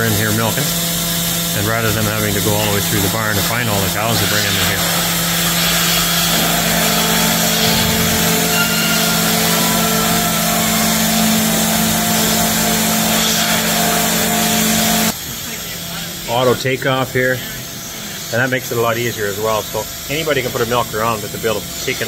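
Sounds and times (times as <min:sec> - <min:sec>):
higher mechanical hum: 0:00.0 - 0:22.0
milking machinery humming: 0:00.0 - 0:22.0.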